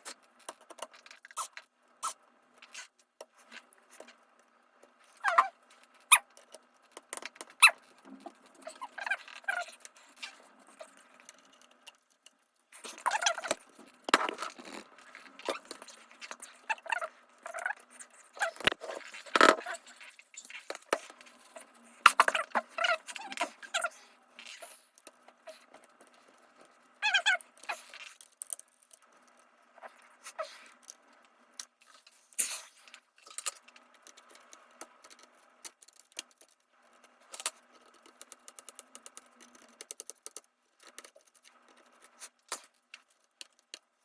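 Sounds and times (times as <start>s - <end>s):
laptop parts clicking and scraping: 5.1s - 29.5s, 30.7s - 43.9s.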